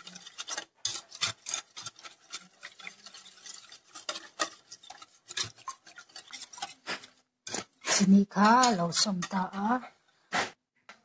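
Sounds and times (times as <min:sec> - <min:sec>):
whisk clinking against bowl: 0:00.0 - 0:09.6
liquid batter swishing: 0:00.0 - 0:10.3.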